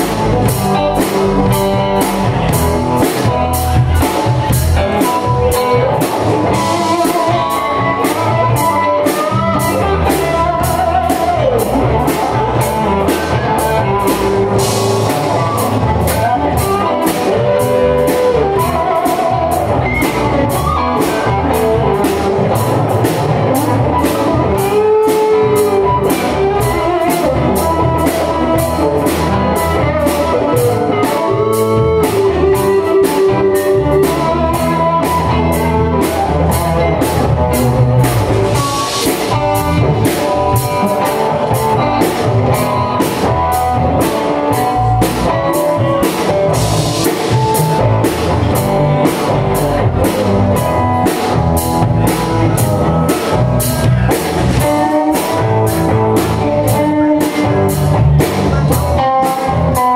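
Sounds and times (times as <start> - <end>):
drum kit steady beat: 0.0 - 59.9
electric guitar lead lines: 0.0 - 59.9.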